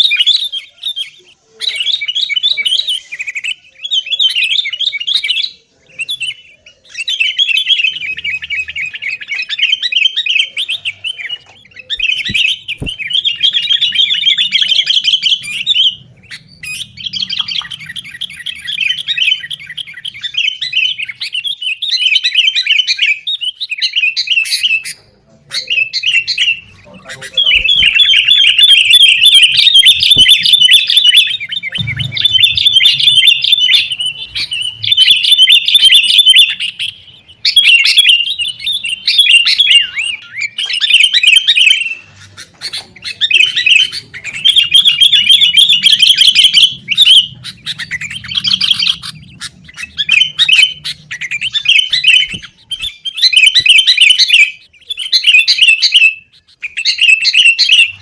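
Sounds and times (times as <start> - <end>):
bulbuls chattering calls: 0.0 - 58.0.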